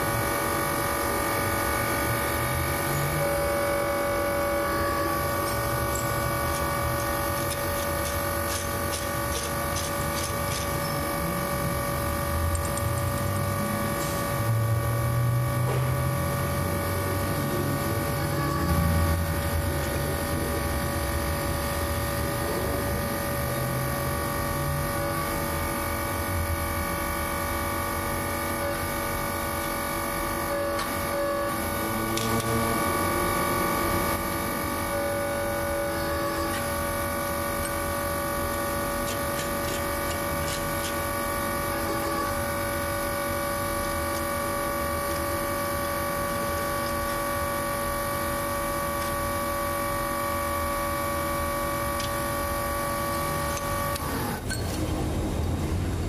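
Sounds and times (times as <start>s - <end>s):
electric motor humming: 0.0s - 55.9s.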